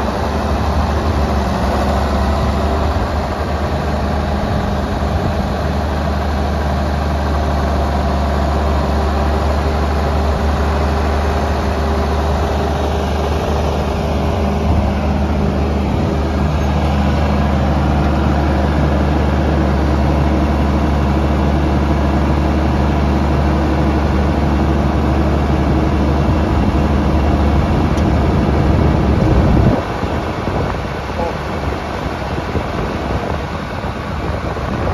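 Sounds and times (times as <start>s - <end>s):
diesel tractor engine idling: 0.0s - 34.9s.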